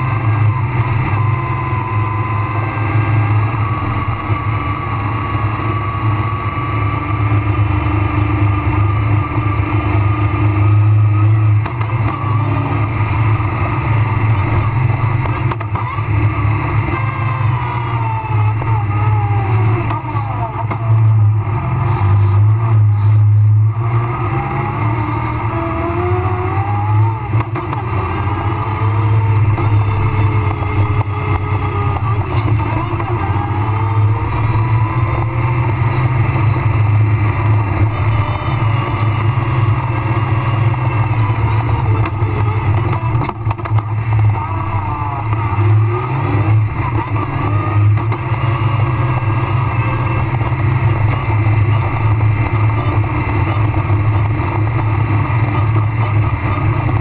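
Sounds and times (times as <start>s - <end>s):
rally car engine running hard: 0.0s - 57.0s.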